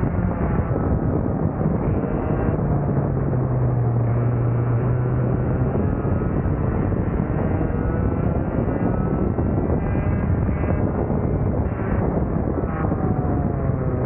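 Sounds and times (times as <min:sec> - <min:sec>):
kart engine running: 0:00.0 - 0:14.0.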